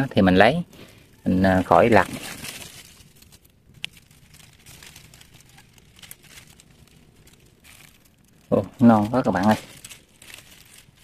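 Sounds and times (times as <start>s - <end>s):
fronds rustling: 0.0s - 11.0s.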